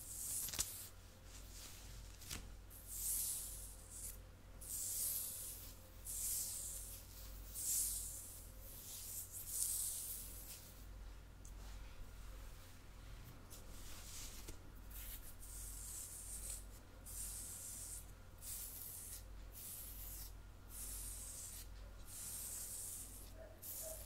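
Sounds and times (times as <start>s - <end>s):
soft hissy scratching: 0.0s - 24.0s.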